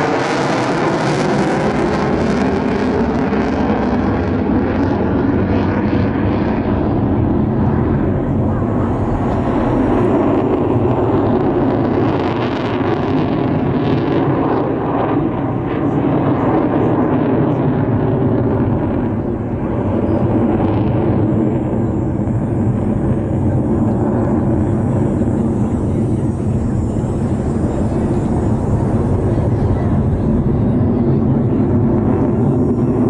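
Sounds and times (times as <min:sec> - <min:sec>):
jet engines rushing: 0:00.0 - 0:33.0.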